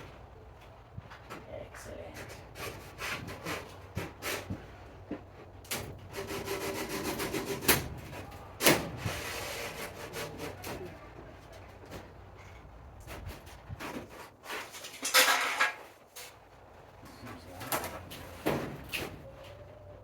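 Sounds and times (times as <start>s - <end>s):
frame parts scraping and rubbing: 0.0s - 20.0s.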